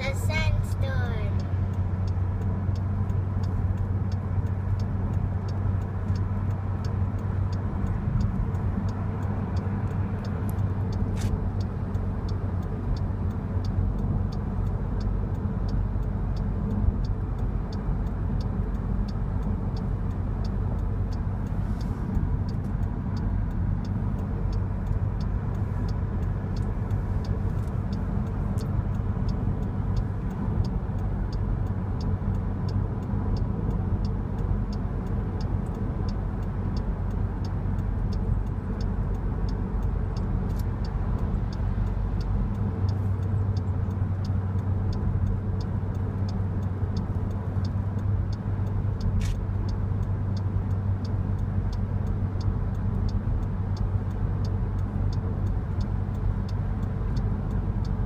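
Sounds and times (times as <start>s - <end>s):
car road and engine noise: 0.0s - 58.0s
light regular ticking: 0.0s - 58.0s.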